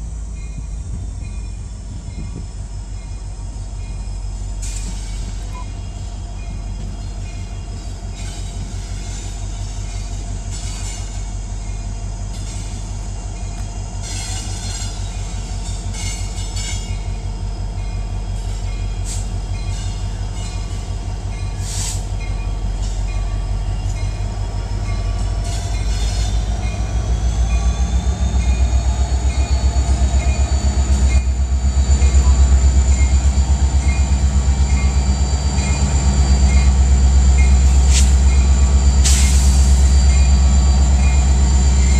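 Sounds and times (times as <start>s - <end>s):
locomotive engine rumble: 0.0s - 41.9s.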